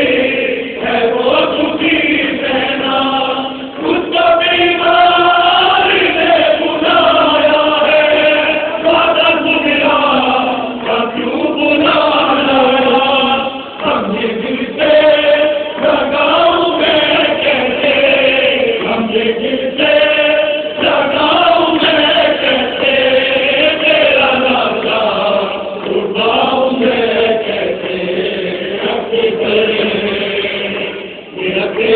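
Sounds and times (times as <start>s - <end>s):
group chanting a lament: 0.0s - 31.9s.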